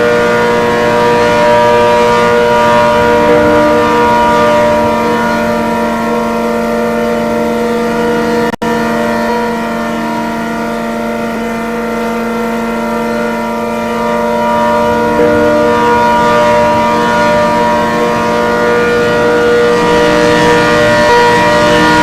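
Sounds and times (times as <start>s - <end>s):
mechanical warning siren: 0.0s - 22.0s.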